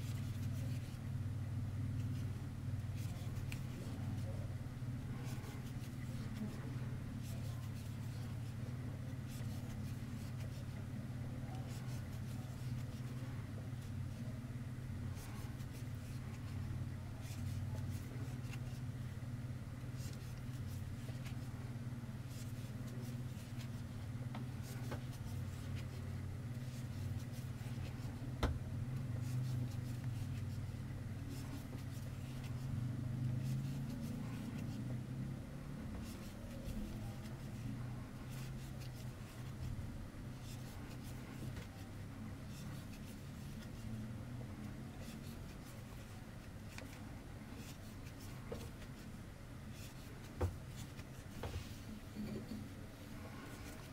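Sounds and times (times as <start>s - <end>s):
crochet hook scratching yarn: 0.0s - 1.1s, 1.8s - 53.9s.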